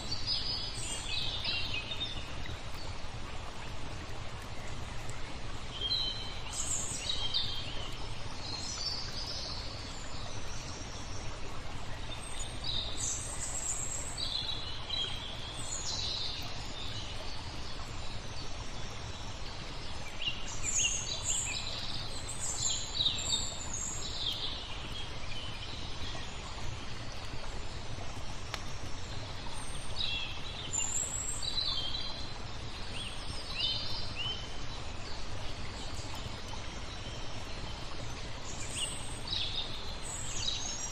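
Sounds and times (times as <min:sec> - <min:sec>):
flowing water: 0:00.0 - 0:40.9
songbirds chirping: 0:00.0 - 0:40.9.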